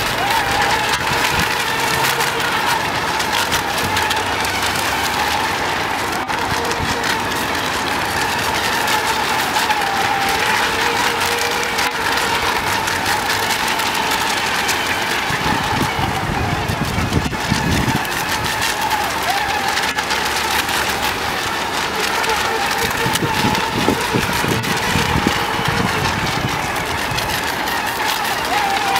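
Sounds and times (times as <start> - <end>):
model boat motor whine: 0.0 - 28.9.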